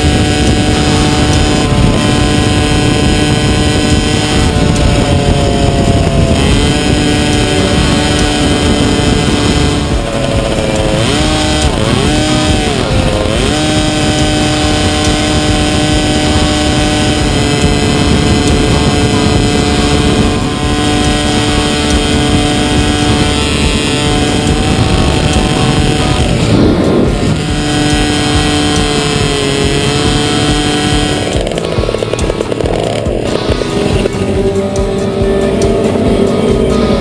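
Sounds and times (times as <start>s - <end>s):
kart engine at high revs: 0.0s - 37.0s.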